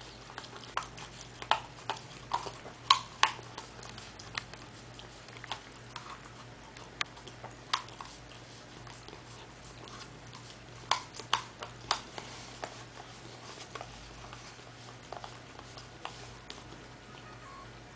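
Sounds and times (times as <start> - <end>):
dog licking plastic cup: 0.2 - 16.8.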